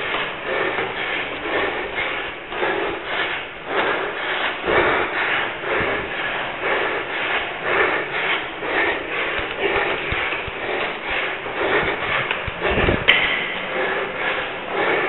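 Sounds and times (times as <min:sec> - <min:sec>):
footfalls on stairs: 0:00.0 - 0:15.0
hard breathing: 0:00.0 - 0:15.0.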